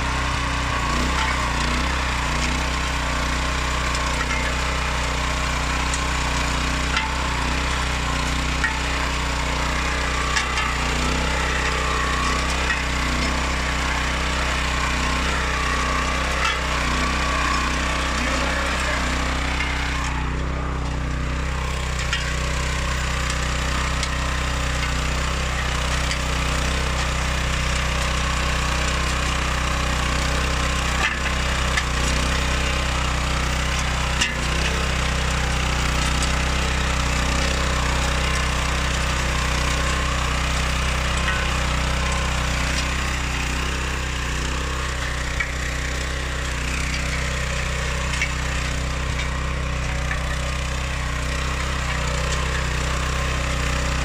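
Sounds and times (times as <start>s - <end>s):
petrol engine running: 0.0s - 54.0s.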